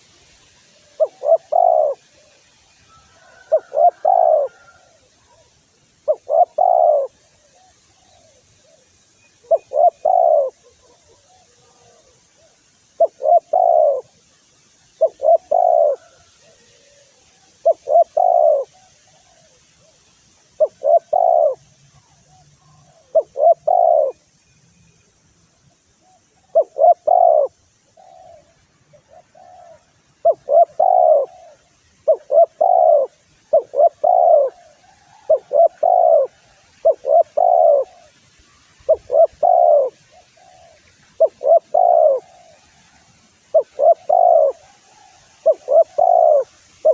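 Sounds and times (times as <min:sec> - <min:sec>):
dove cooing: 0:00.7 - 0:14.2, 0:15.0 - 0:24.3, 0:26.0 - 0:46.9.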